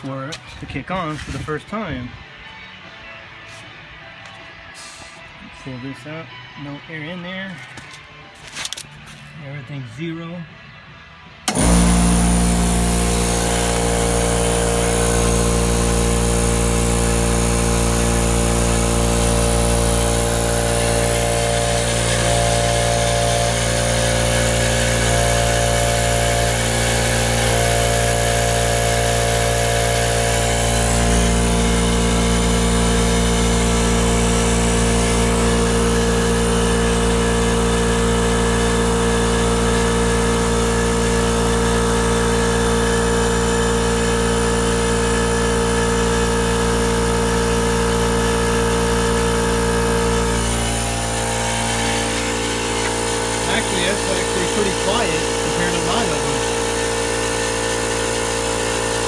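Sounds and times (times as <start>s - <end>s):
air compressor running: 11.4s - 59.0s.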